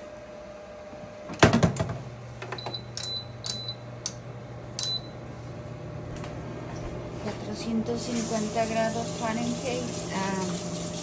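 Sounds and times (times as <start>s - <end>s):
air fryer humming: 0.0s - 11.0s.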